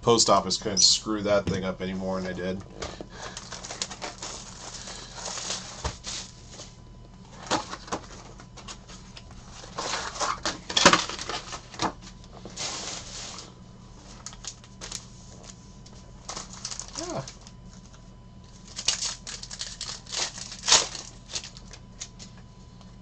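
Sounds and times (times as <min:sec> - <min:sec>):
cardboard and foil crinkling: 0:03.0 - 0:15.6, 0:16.2 - 0:22.5.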